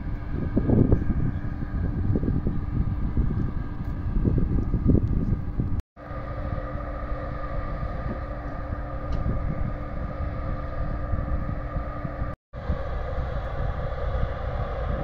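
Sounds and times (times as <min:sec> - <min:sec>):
ship engines droning: 0:00.0 - 0:15.0
wind rumbling on microphone: 0:00.0 - 0:15.0.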